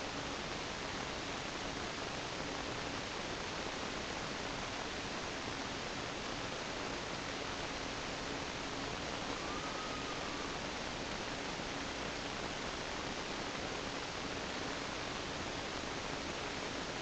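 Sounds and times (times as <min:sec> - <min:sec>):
faint low hum: 0:00.0 - 0:17.0
recorder hiss: 0:00.0 - 0:17.0.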